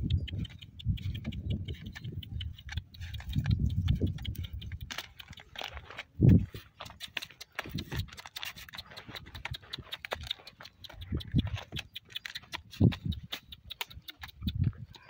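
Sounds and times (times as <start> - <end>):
donkey hooves on stony track: 0.0 - 15.0.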